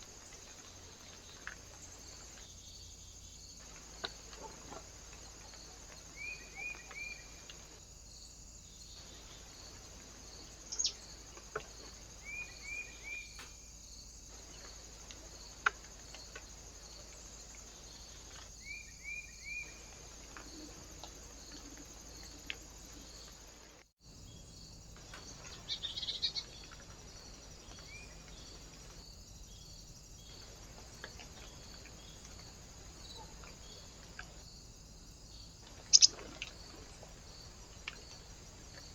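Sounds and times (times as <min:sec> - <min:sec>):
small birds chirping: 0:00.0 - 0:07.8, 0:08.7 - 0:23.4, 0:24.2 - 0:34.6, 0:35.3 - 0:38.9.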